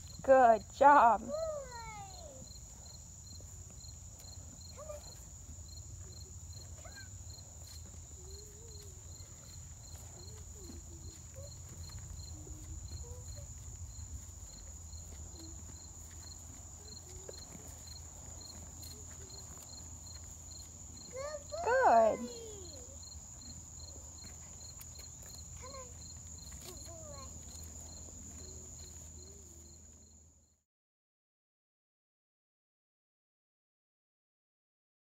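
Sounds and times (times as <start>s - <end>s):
high insect trill: 0.0s - 30.5s
insects chirping: 0.0s - 30.6s.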